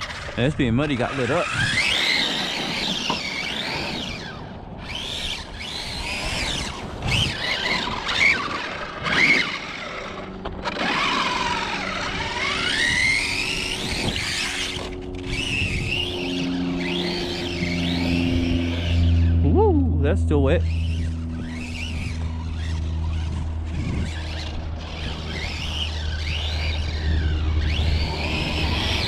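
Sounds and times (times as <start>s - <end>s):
electric motor whining: 0.0s - 29.0s
tyre and drivetrain noise on dirt: 0.0s - 29.0s.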